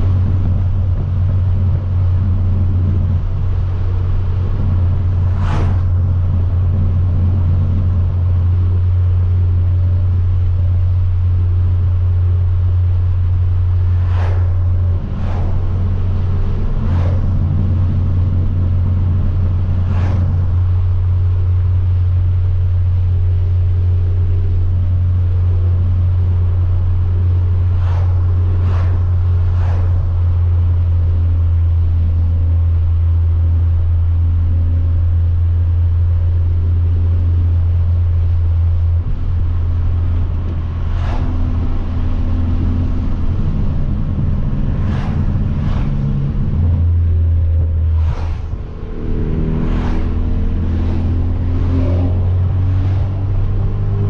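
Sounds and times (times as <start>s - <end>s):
car engine cruising heard from cabin: 0.0s - 54.0s
exhaust cracks: 0.0s - 54.0s.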